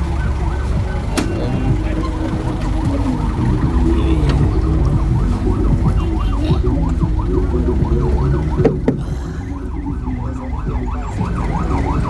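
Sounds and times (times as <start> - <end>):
road traffic rumble: 0.0 - 12.0
siren sweeping up and down: 0.0 - 12.0.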